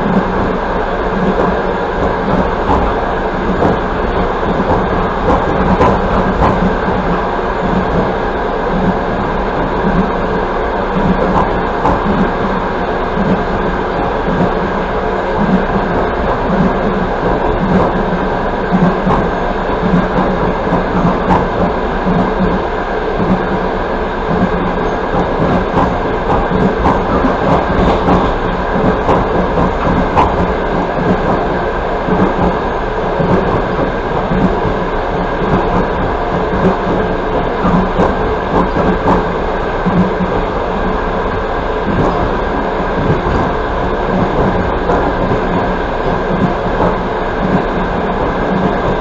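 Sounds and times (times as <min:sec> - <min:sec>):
train wheels rumbling on track: 0:00.0 - 0:49.0.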